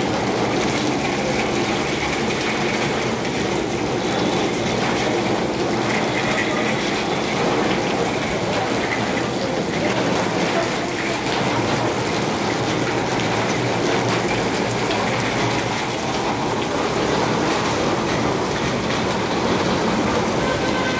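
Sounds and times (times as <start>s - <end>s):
steady rain: 0.0s - 20.9s.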